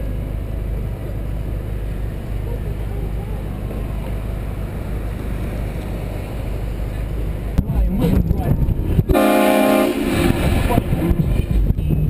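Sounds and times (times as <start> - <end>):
car engine idling: 0.0 - 12.0
street noise: 0.0 - 12.0.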